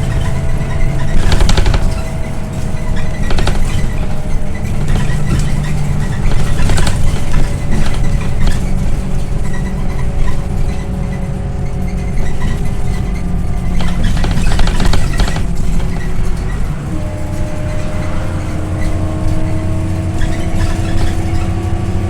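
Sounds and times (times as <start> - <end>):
bus body and fittings rattling: 0.0 - 22.0
bus engine droning: 0.0 - 22.0.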